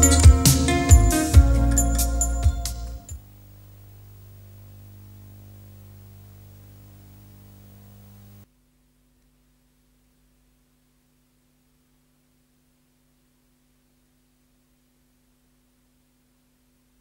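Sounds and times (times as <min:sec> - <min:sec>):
faint tape hiss: 0:00.0 - 0:17.0
low electrical hum: 0:01.0 - 0:17.0.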